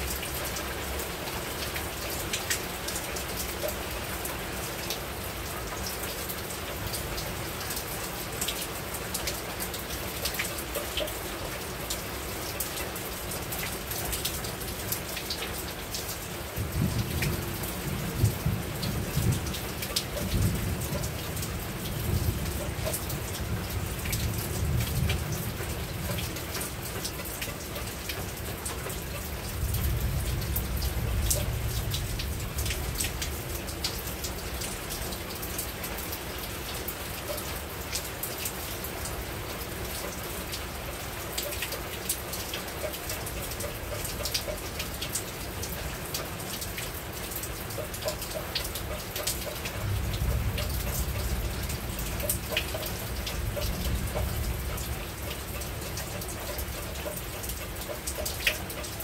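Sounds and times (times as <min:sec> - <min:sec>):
rain on a rooftop: 0:00.0 - 0:59.0
raindrops ticking: 0:00.0 - 0:59.0.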